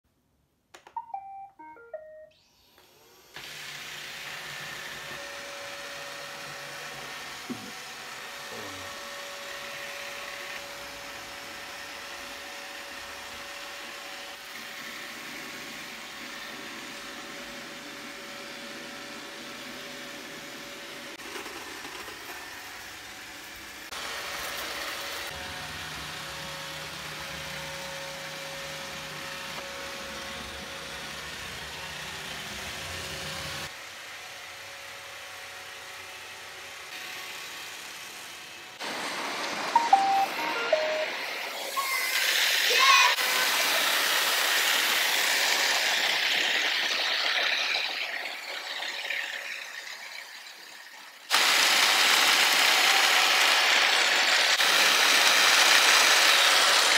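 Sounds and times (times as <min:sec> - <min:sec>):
robot vacuum running: 0:02.4 - 0:33.7, 0:35.2 - 0:50.0.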